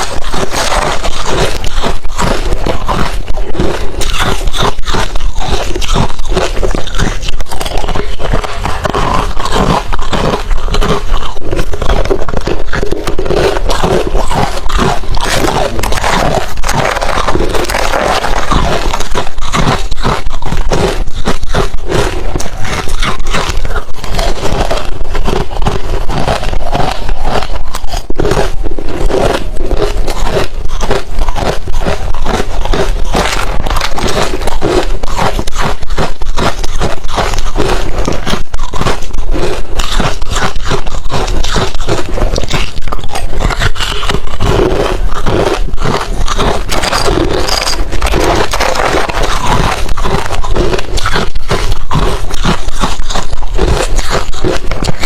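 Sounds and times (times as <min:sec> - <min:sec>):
crushed ice being chewed: 0:00.0 - 0:55.0.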